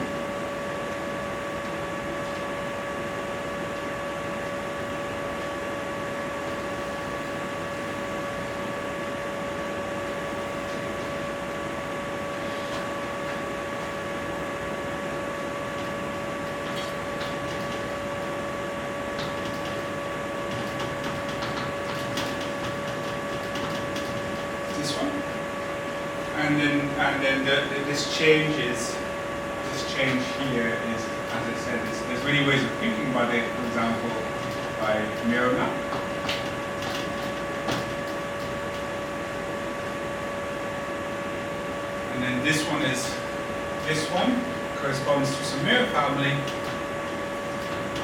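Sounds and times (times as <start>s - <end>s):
constant whine of steady tones: 0.0s - 48.0s.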